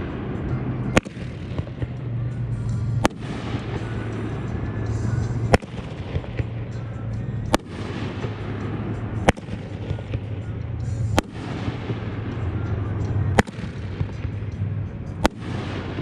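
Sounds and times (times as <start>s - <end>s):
fireworks bangs: 0.0s - 4.7s, 5.4s - 6.8s, 7.5s - 10.5s, 11.1s - 14.4s, 15.2s - 16.0s.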